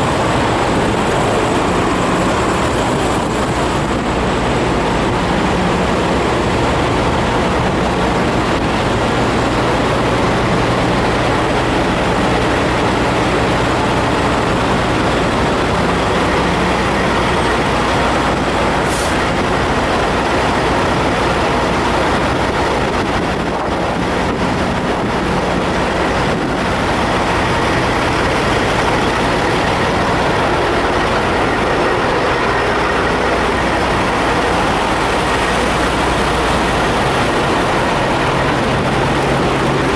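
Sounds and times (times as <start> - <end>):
diesel truck engines idling: 0.0 - 39.9.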